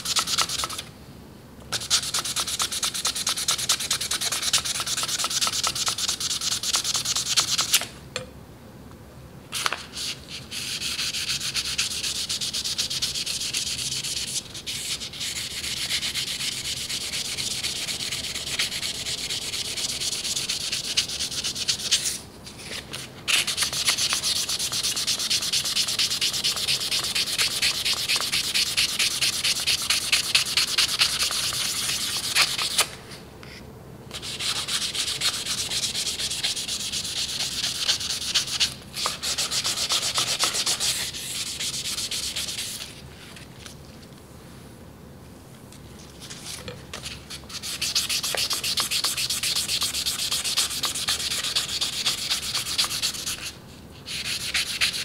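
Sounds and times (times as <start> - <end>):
sandpaper rubbing on steel blade: 1.8 - 7.8, 9.9 - 32.9, 34.2 - 43.0, 46.4 - 55.0.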